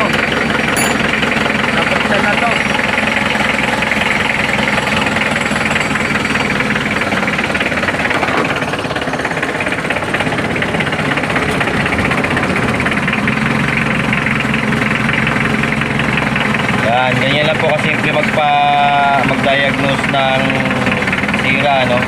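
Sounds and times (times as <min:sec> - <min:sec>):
diesel engine idling with clatter: 0:00.0 - 0:22.0.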